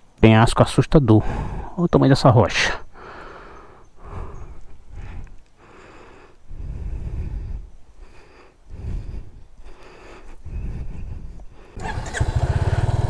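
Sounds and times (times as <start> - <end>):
man breathing heavily: 1.2 - 1.8, 2.8 - 12.8.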